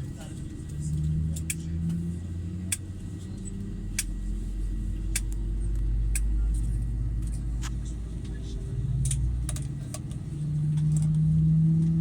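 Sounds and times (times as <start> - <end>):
aircraft cabin hum: 0.0 - 12.0.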